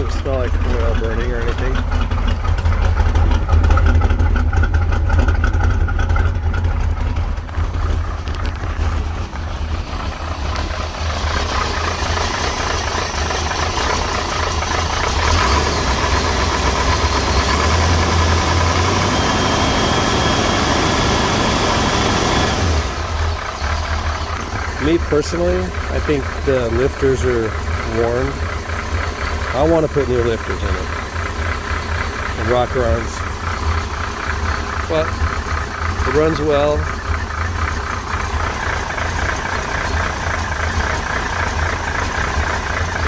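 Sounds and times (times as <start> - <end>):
mechanical ticking and rattle: 0.0 - 19.5, 23.0 - 43.0
car engine idling: 0.0 - 43.0.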